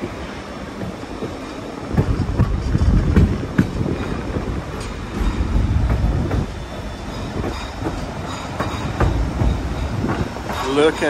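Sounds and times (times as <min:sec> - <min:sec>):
train cars rumbling on track: 0:00.0 - 0:11.0
wheel clacks and knocks: 0:00.0 - 0:11.0.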